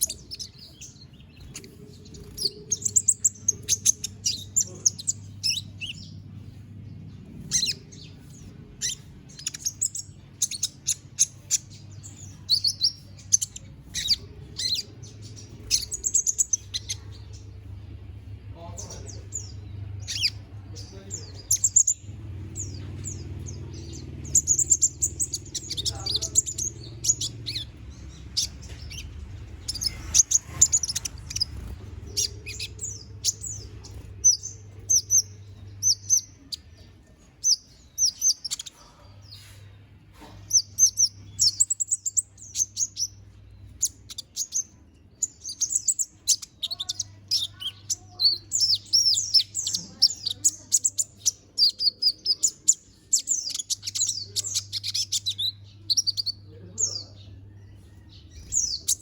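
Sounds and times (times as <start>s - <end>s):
steady low hum: 0.0s - 59.0s
sunbird chirping and trilling: 0.0s - 59.0s.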